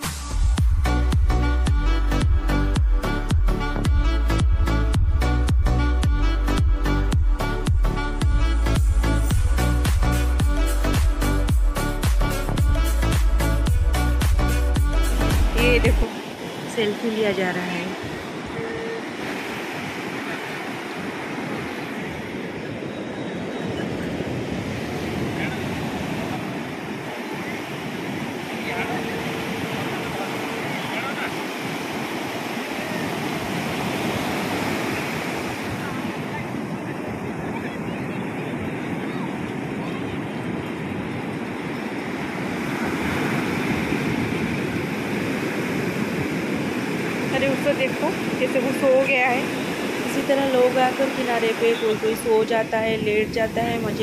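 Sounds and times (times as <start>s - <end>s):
ocean waves breaking on beach: 8.4s - 54.0s.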